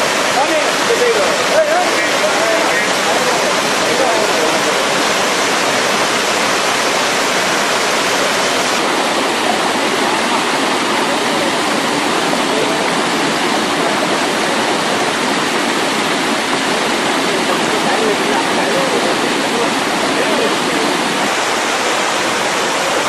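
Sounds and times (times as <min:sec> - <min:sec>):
waterfall pouring onto rock: 0:00.0 - 0:23.0.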